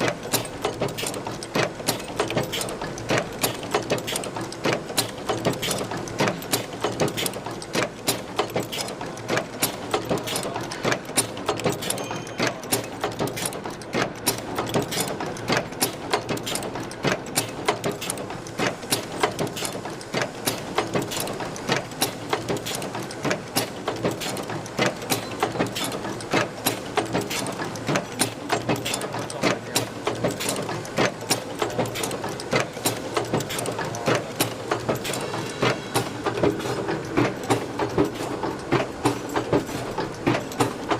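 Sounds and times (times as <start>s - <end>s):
machine mechanism clacking: 0.0s - 40.9s.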